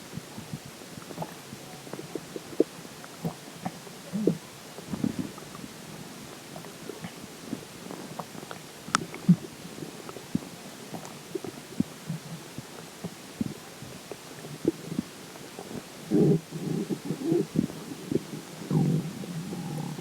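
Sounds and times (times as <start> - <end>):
stomach gurgling: 0.0 - 20.0.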